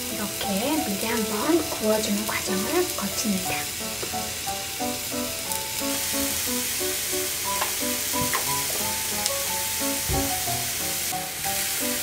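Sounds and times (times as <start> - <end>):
background music: 0.0 - 12.0
roots sizzling in oil: 0.0 - 12.0.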